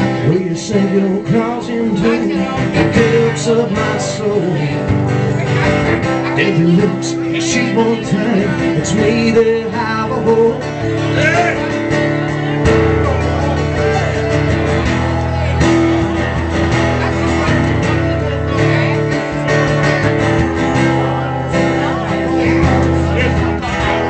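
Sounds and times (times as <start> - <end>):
guitar: 0.0 - 24.0
live country band playing: 0.0 - 24.0.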